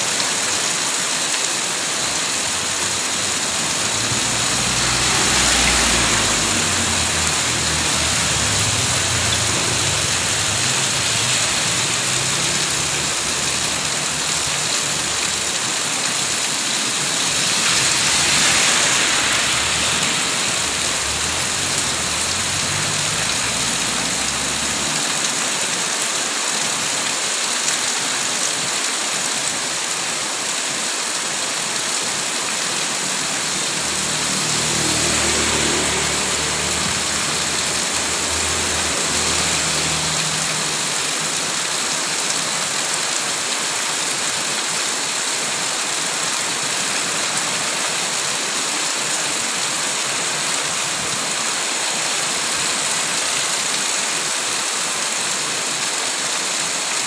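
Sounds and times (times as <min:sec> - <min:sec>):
heavy rain pouring: 0:00.0 - 0:57.0
vehicles passing on wet road: 0:00.0 - 0:57.0.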